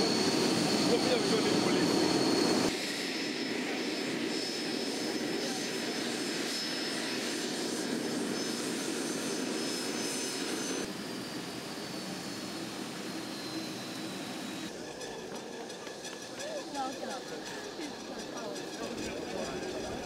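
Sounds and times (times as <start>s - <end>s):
high turbine whine: 0.0s - 20.0s
jet engines taxiing: 0.0s - 20.0s.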